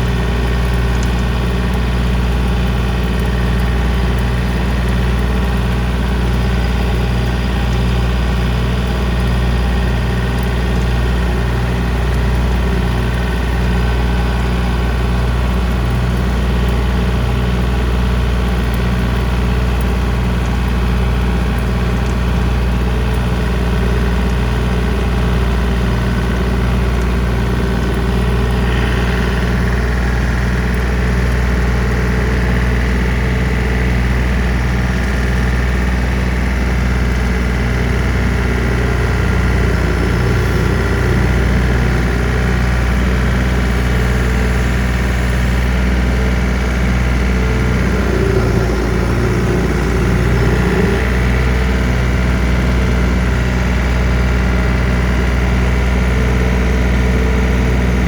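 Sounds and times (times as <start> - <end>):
diesel tractor running under load: 0.0 - 58.0.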